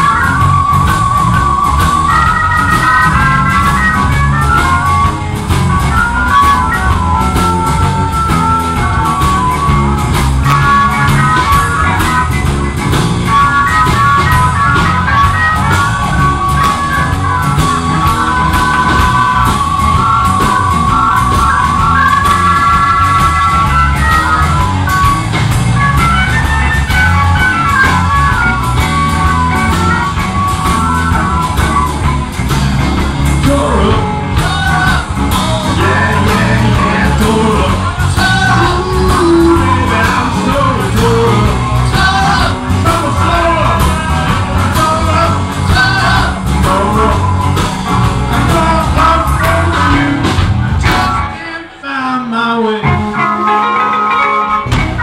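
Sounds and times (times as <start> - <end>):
rock music: 0.0 - 55.0.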